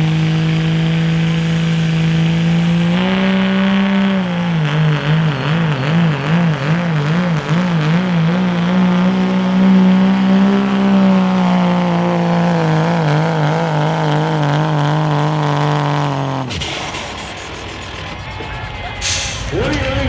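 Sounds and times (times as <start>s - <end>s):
diesel engine straining: 0.0s - 20.0s.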